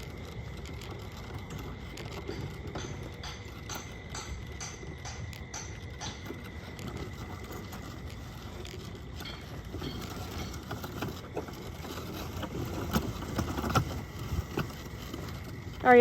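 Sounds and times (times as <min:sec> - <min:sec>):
cart wheels rumbling on rough ground: 0:00.0 - 0:16.0.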